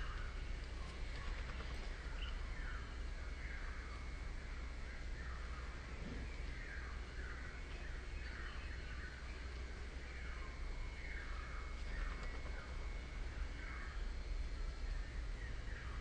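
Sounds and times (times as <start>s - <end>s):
birds calling: 0.0s - 16.0s
steady low rumble: 0.0s - 16.0s.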